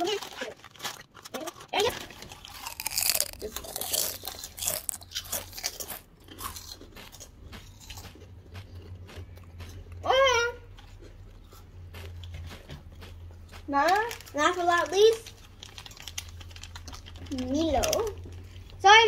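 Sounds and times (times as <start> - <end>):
child crunching chips: 0.0 - 18.9.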